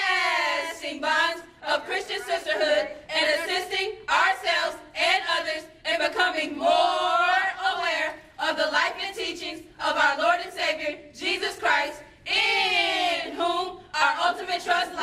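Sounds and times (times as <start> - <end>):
women singing in unison: 0.0 - 15.0.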